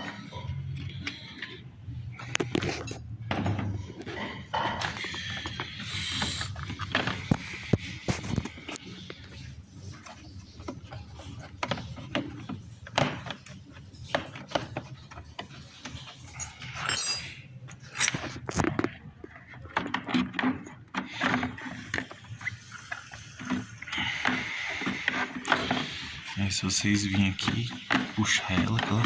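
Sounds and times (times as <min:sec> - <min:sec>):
plastic parts clicking and scraping: 0:00.0 - 0:16.8, 0:17.7 - 0:29.0.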